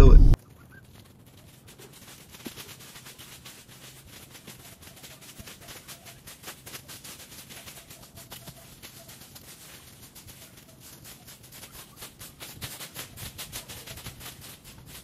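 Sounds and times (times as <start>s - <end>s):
dry rustling and crackling: 0.4s - 15.0s.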